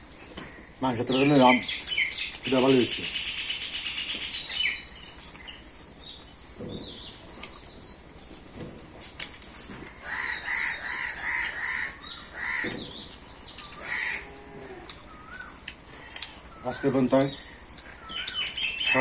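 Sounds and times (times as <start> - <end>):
repeated bird call notes: 0.0 - 8.2, 9.9 - 19.0
birds chirping: 0.0 - 19.0.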